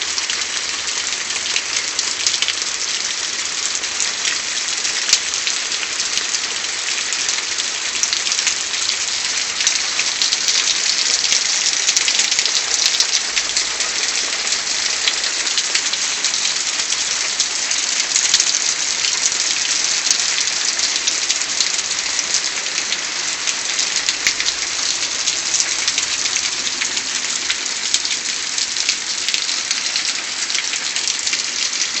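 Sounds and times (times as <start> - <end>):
raindrops ticking on surfaces: 0.0 - 32.0
steady rain falling: 0.0 - 32.0.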